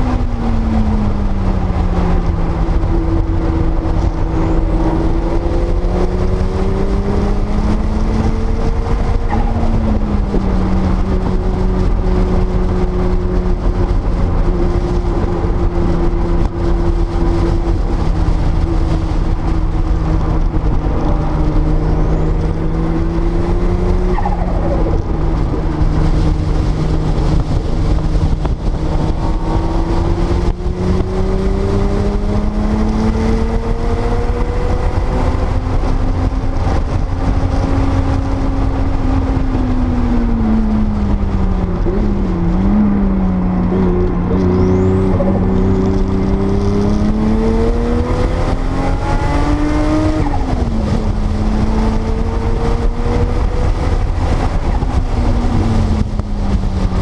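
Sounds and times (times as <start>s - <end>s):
car engine revving: 0.0s - 57.0s
steady low rumble: 0.0s - 57.0s.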